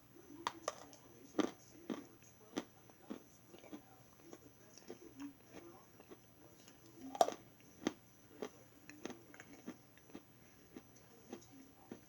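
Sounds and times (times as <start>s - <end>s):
crunchy food being chewed: 0.4s - 12.0s.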